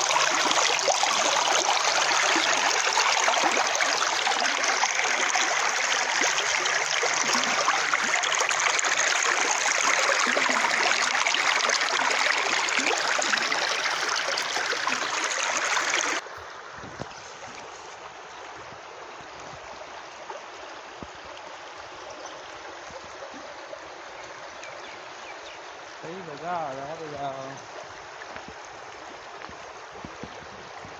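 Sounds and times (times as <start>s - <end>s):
stream flowing over stones: 0.0s - 30.9s.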